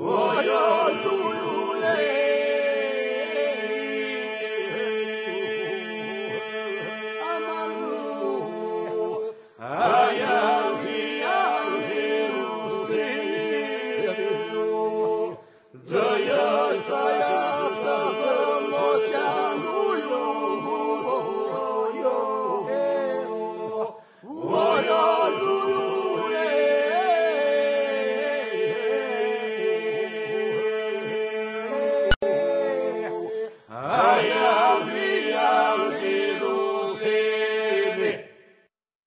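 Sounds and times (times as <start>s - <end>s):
polyphonic folk choir singing: 0.0s - 38.7s.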